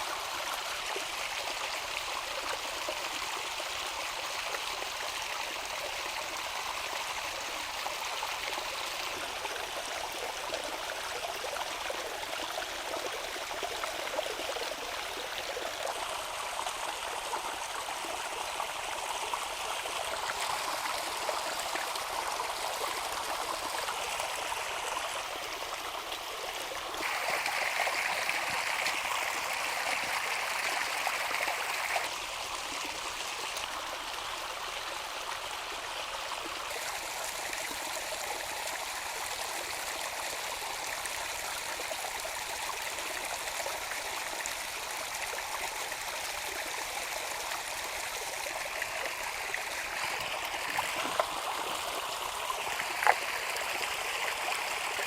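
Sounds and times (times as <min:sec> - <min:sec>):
flowing water: 0:00.0 - 0:55.0.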